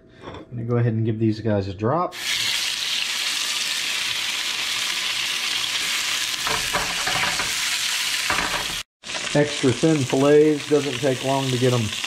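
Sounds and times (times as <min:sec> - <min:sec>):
fish sizzling in hot oil: 0:02.2 - 0:12.0.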